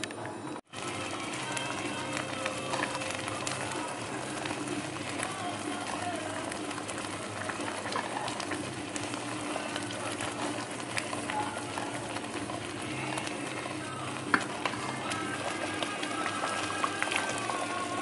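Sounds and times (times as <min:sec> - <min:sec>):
porridge bubbling and popping: 0:00.0 - 0:18.0.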